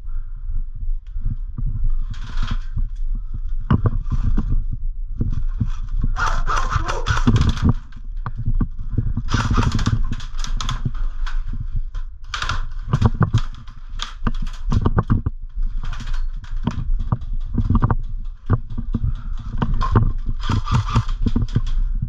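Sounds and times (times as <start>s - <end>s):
clothing rustling against camera: 1.2s - 22.0s.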